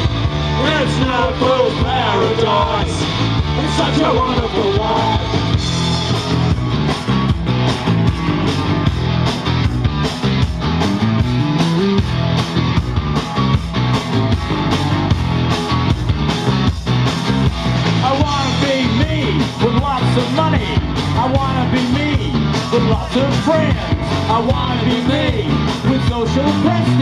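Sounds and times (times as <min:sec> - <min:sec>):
bass guitar: 0:00.0 - 0:27.0
drums steady beat: 0:00.0 - 0:27.0
electric guitars: 0:00.0 - 0:27.0.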